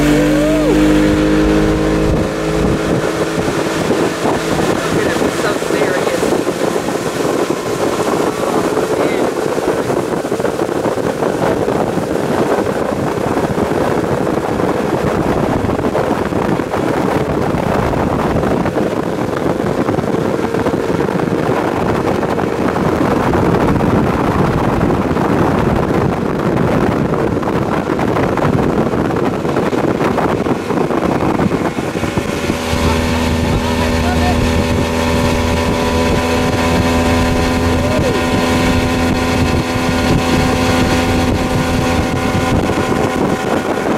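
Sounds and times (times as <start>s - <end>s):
outboard motor running: 0.0s - 43.9s
rushing water: 0.0s - 43.9s
wind buffeting microphone: 0.0s - 43.9s.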